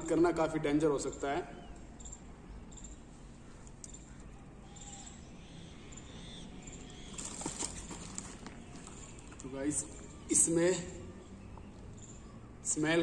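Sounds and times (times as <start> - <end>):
faint bird calls: 1.1 - 12.7.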